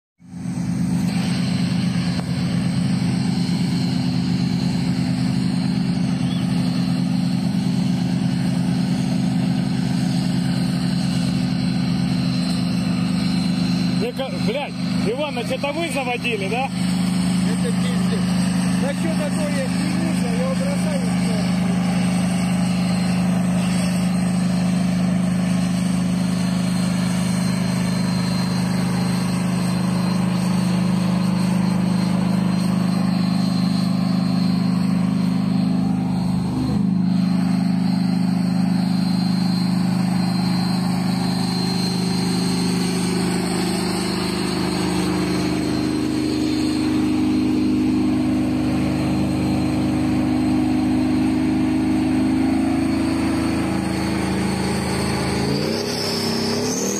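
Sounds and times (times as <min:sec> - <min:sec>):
tank engine running: 0:00.2 - 0:56.9.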